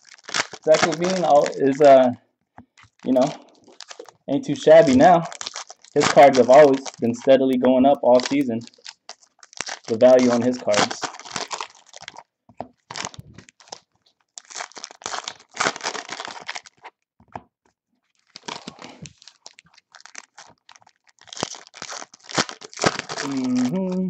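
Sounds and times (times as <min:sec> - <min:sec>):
foil packs tearing and crinkling: 0:00.0 - 0:02.0, 0:02.8 - 0:17.0, 0:18.1 - 0:23.7.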